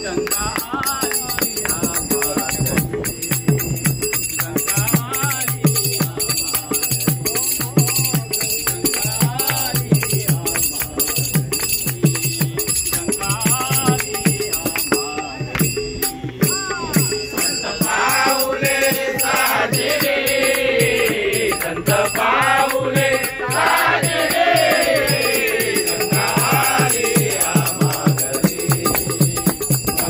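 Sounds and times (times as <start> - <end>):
hand cymbals jingling: 0.0 - 30.0
hand drums beaten: 0.0 - 30.0
man singing: 0.0 - 30.0.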